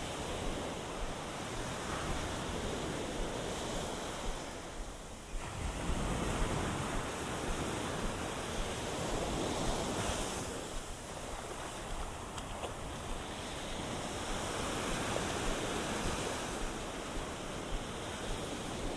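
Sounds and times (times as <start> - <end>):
ocean waves against seawall: 0.0 - 18.9.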